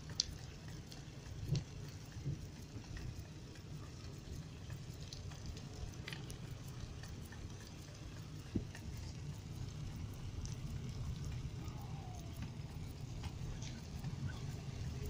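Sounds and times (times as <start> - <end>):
faint ticks and crackles: 0.0 - 15.0.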